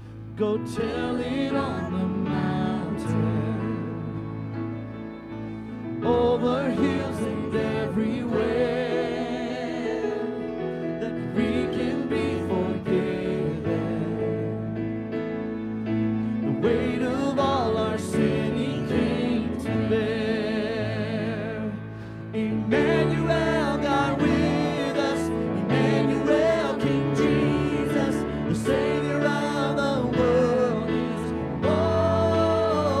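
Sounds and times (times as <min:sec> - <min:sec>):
worship band and singers: 0:00.0 - 0:33.0.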